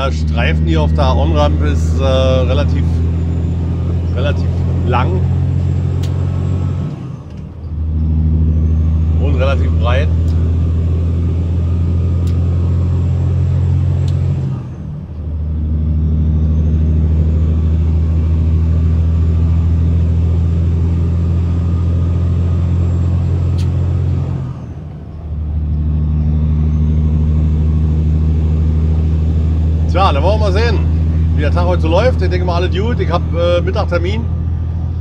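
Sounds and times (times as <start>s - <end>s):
diesel truck engine droning: 0.0s - 35.0s.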